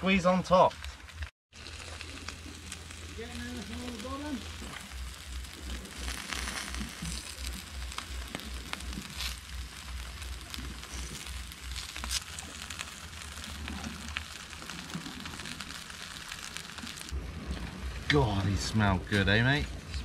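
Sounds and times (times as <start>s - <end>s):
fish sizzling on grill: 0.0s - 20.0s
small pops: 0.8s - 17.2s.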